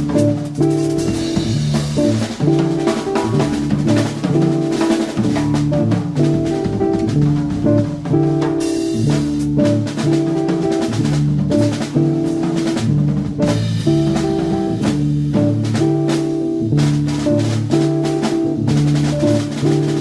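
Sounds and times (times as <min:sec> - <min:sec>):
drum kit steady beat: 0:00.0 - 0:20.0.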